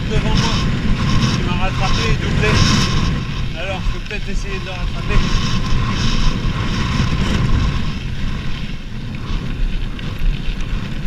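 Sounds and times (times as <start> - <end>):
bike clicks: 0.0 - 11.0
bike tyres rolling on dirt: 0.0 - 11.0
wind buffeting microphone: 0.0 - 11.0.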